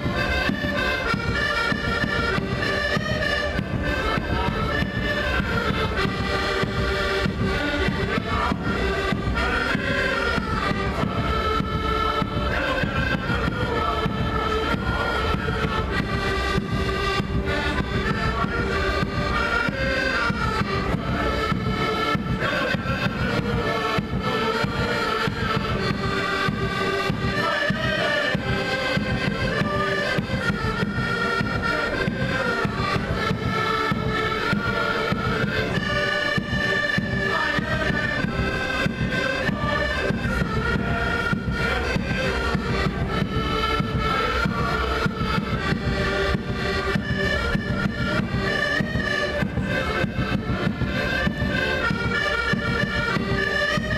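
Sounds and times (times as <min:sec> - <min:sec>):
live music melody: 0:00.0 - 0:53.9
steady drumming: 0:00.0 - 0:53.9.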